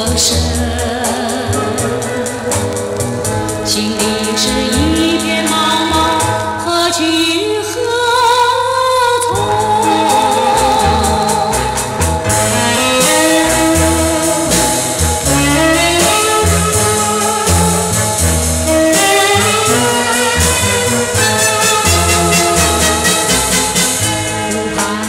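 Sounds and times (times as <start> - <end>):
bass line: 0.0 - 6.7, 9.3 - 25.0
band playing pop music: 0.0 - 25.0.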